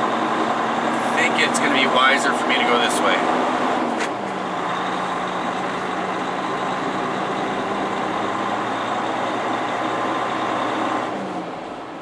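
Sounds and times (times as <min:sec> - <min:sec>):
diesel truck engine humming: 0:00.0 - 0:12.0
road noise: 0:00.0 - 0:12.0.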